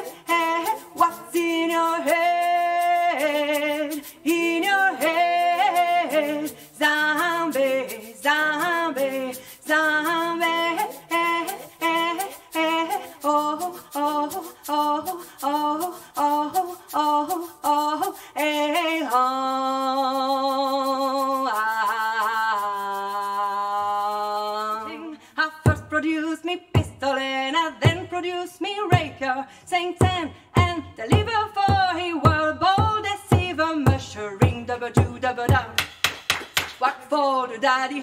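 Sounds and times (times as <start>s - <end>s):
woman singing unaccompanied: 0.0s - 35.9s, 36.8s - 38.0s.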